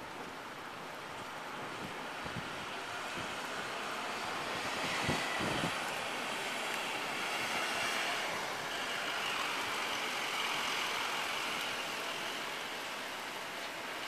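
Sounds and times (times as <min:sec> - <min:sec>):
rain hissing: 0:02.1 - 0:14.0.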